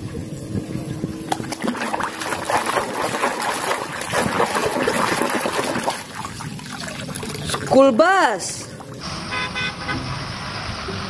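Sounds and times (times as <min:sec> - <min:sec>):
water splashing in a basin: 0:00.0 - 0:09.2.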